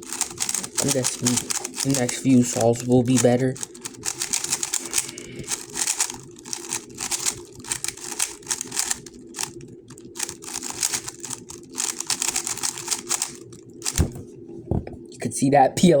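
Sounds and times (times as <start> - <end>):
puzzle cube clicking: 0.1 - 14.2.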